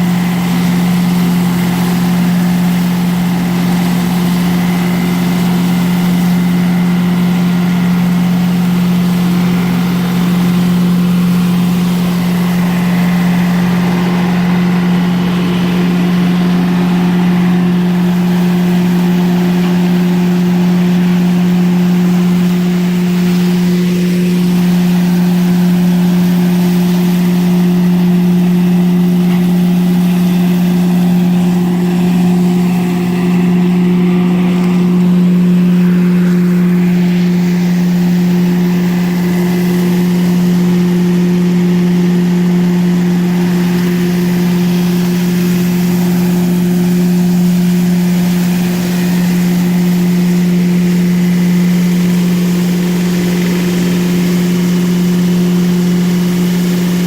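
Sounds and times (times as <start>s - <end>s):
debris blower humming: 0.0s - 57.0s
tractor engine: 0.0s - 57.0s.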